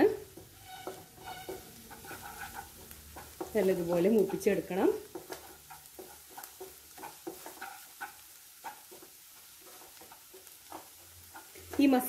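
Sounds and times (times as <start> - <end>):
faint sizzle: 0.0 - 12.0
spatula scraping a pan: 0.2 - 12.0.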